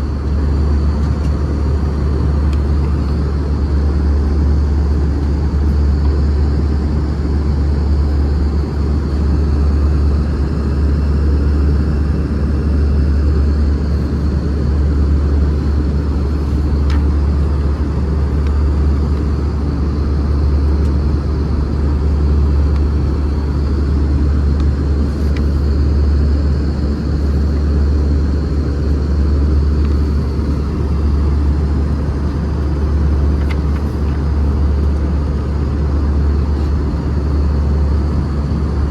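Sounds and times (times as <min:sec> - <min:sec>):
aircraft cabin engine roar: 0:00.0 - 0:38.9.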